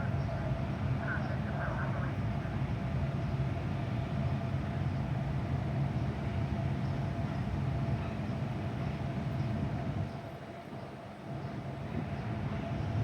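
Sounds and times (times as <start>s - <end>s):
train engine drone: 0.0s - 13.0s.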